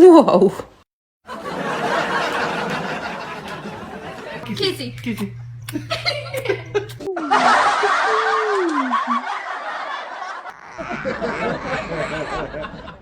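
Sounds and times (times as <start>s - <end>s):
people laughing: 1.3s - 13.0s.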